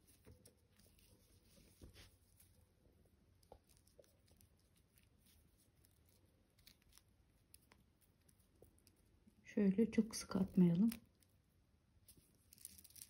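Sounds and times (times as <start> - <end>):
fingers rustling beaded cord: 0.0 - 9.4, 10.4 - 13.0.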